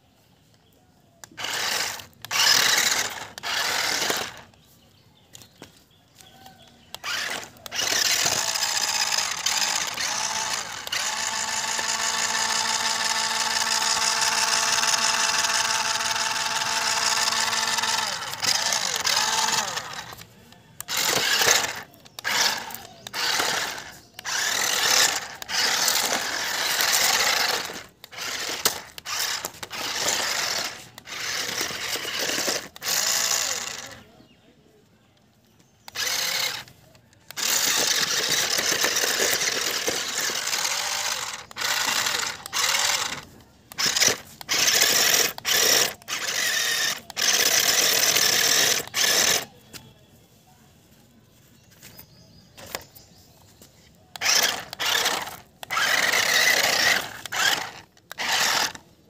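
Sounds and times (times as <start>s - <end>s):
toy car electric motors whirring: 0.6s - 4.7s, 5.3s - 34.3s, 35.5s - 49.9s, 51.7s - 53.0s, 53.8s - 59.0s.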